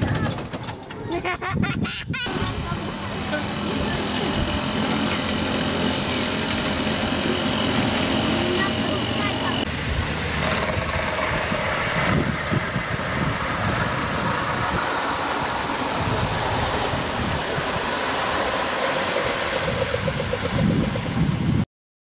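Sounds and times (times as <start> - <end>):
model train wheels rumbling: 0.0 - 1.6, 2.3 - 21.6.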